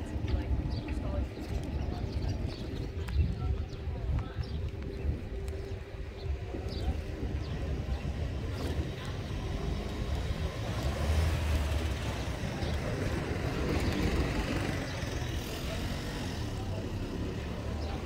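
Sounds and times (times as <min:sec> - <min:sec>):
street hubbub: 0:00.0 - 0:18.0
vehicle engine running: 0:00.0 - 0:18.0.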